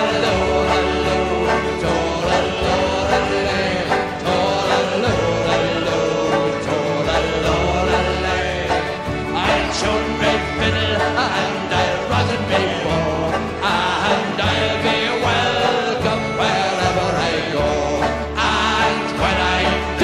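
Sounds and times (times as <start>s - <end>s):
banjo and guitar strumming: 0.0s - 20.0s
voices singing: 0.0s - 20.0s.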